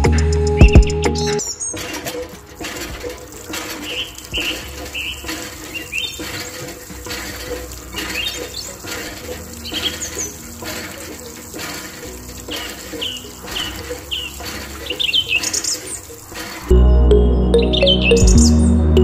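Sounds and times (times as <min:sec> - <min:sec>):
hand pump handle working: 0:01.4 - 0:16.7
water trickling and splashing: 0:01.4 - 0:16.7.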